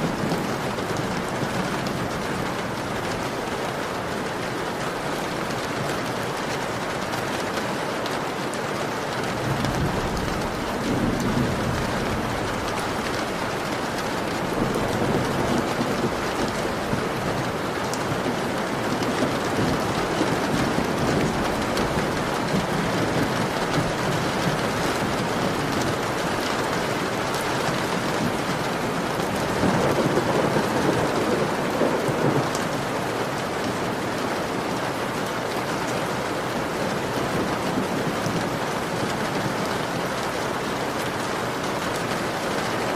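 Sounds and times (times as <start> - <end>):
heavy rain on window: 0.0 - 42.9.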